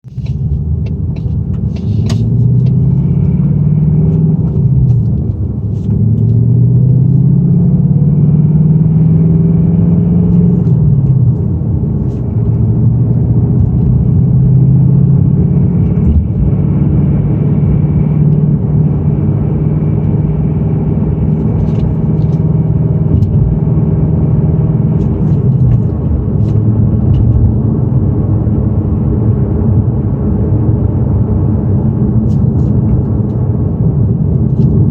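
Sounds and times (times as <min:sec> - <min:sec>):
car engine revving while driving: 0:00.1 - 0:34.9.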